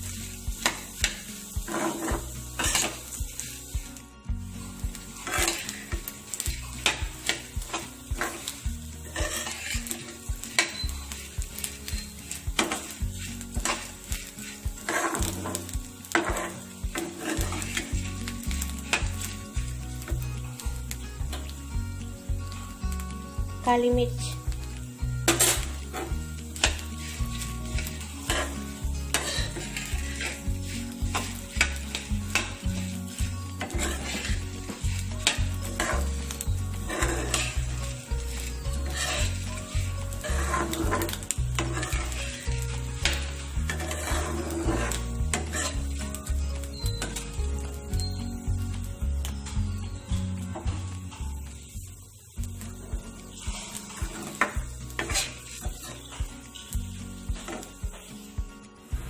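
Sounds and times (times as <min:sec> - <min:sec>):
metal spatula scraping a wok: 0:00.0 - 0:03.9, 0:04.6 - 0:21.6, 0:24.2 - 0:47.7, 0:52.6 - 0:58.3
food sizzling: 0:00.0 - 0:59.0
puffed rice rustling: 0:00.0 - 0:59.0.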